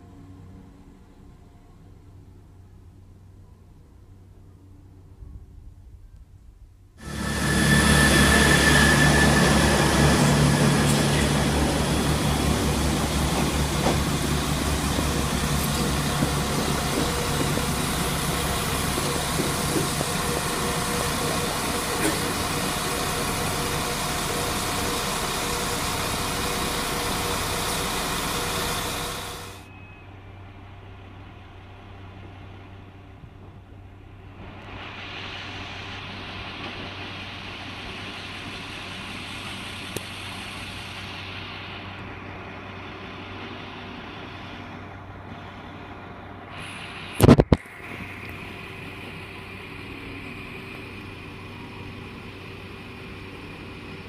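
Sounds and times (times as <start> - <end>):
diesel train engine approaching: 0.0 - 5.2, 7.0 - 54.0
train engine rumble: 0.0 - 54.0
train wheels on rails: 7.0 - 54.0.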